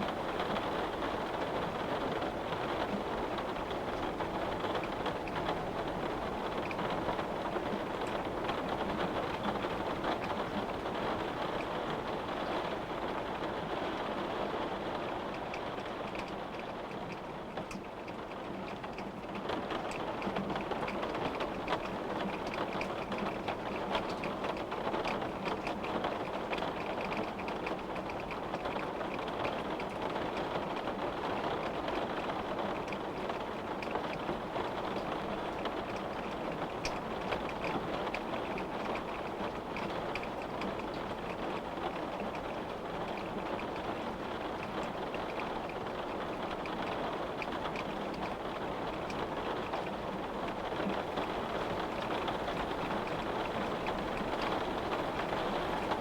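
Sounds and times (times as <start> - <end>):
rain pattering on window: 0.0 - 56.0.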